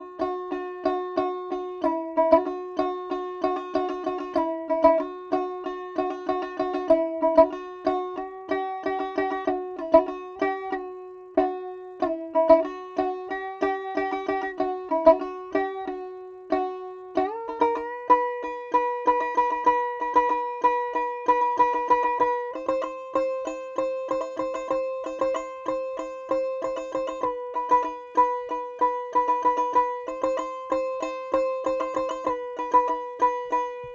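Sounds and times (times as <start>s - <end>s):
plucked string instrument melody: 0.0s - 33.9s.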